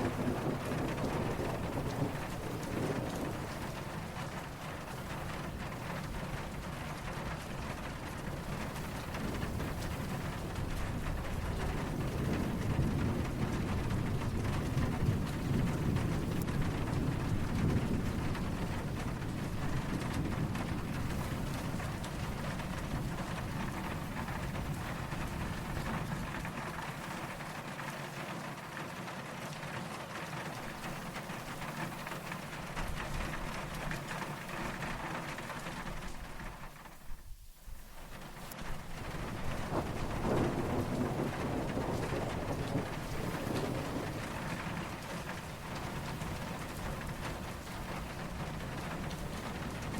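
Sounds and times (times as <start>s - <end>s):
distant thunder rumble: 0.0s - 28.7s, 30.5s - 49.9s
steady rain falling: 0.0s - 49.9s.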